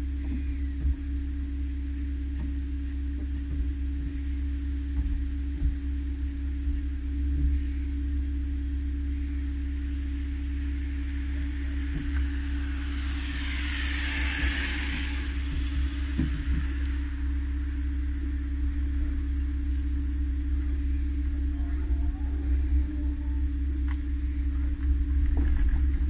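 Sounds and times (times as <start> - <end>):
car road noise approaching: 0.0 - 26.0
low hum with constant tone: 0.0 - 26.0.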